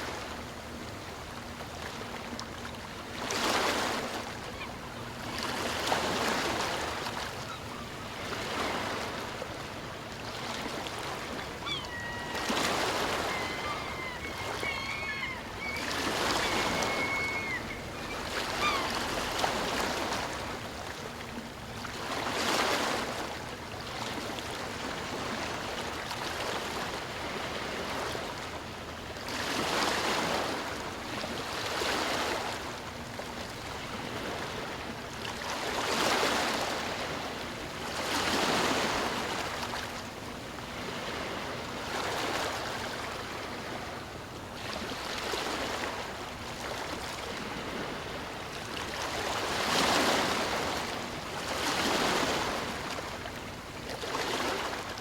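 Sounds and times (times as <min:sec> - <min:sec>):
sea waves rushing in: 0:00.0 - 0:28.6, 0:29.2 - 0:55.0.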